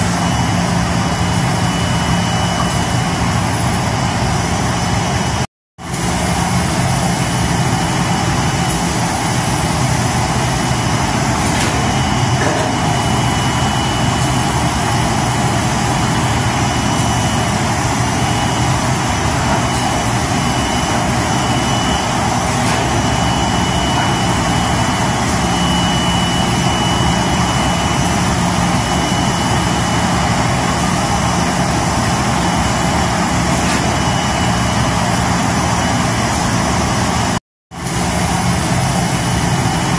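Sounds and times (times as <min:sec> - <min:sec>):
machine hum and whir: 0:00.0 - 0:39.9.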